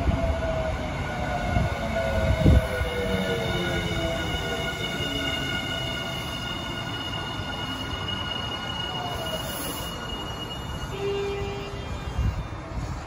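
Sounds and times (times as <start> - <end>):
electric train rumbling to a stop: 0.0 - 13.0.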